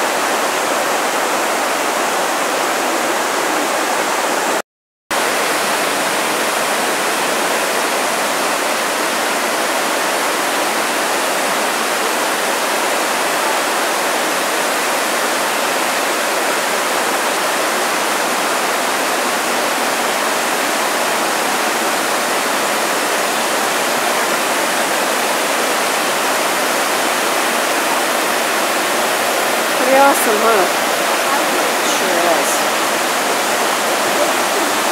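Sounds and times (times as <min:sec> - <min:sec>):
waterfall rushing into pool: 0:00.0 - 0:34.9.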